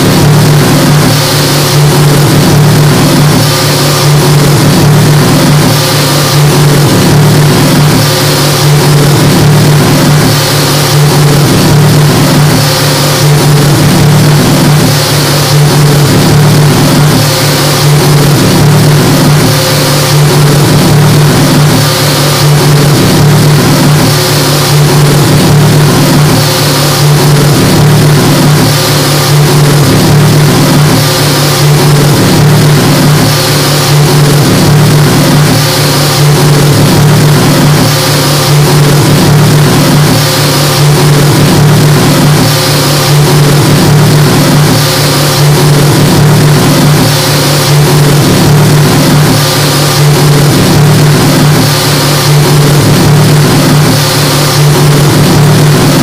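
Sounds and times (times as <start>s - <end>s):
electronic noise drone: 0.0s - 56.0s.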